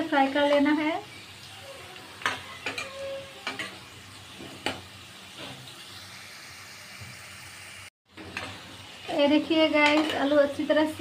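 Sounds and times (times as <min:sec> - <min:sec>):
potatoes sizzling in hot oil: 0:00.0 - 0:11.0.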